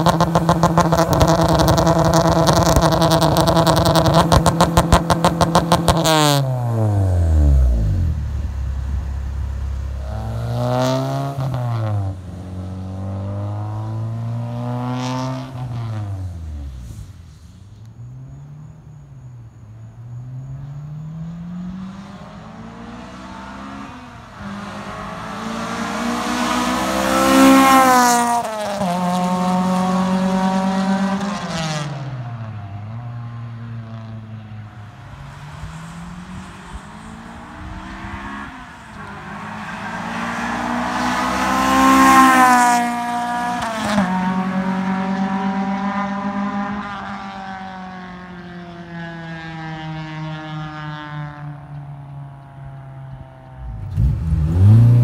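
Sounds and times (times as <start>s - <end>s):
car accelerating past: 0.0s - 18.7s, 20.2s - 51.7s, 52.9s - 55.0s.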